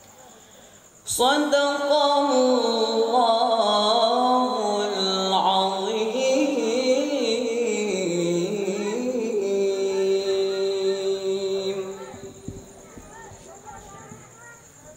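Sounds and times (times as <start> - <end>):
boy reciting melodically into microphone: 1.0 - 14.9.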